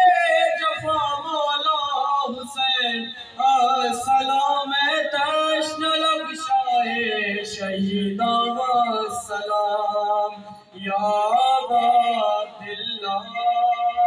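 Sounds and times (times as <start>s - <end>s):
man chanting a lament: 0.0s - 14.0s.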